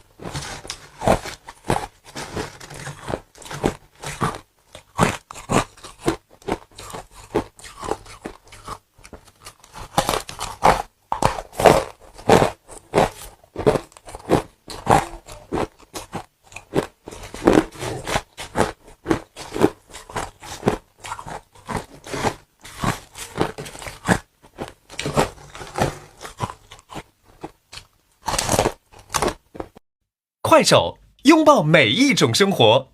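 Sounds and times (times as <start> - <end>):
ice being chewed: 0.0 - 29.8.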